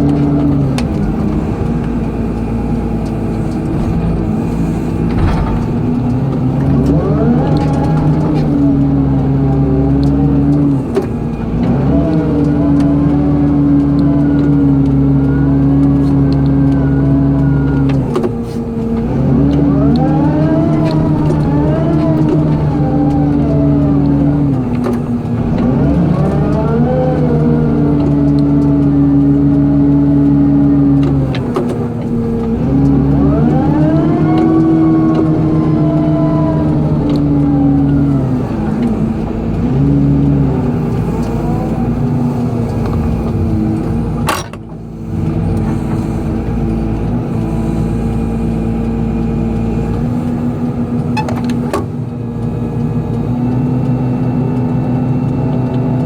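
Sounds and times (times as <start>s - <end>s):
hydraulic whining: 0.0s - 52.4s
excavator diesel engine: 0.0s - 56.0s.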